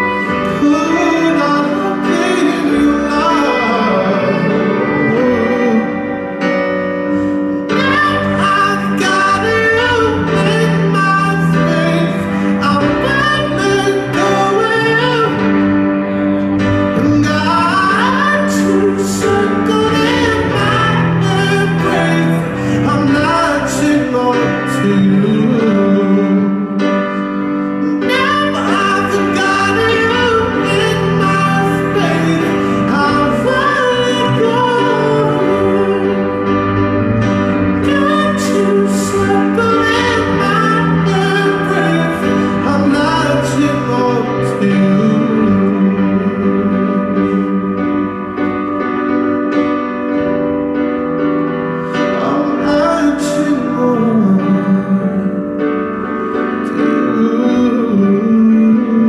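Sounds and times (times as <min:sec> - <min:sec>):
man singing into a microphone: 0:00.0 - 0:48.6, 0:51.8 - 0:59.0
acoustic guitar: 0:00.0 - 0:59.0.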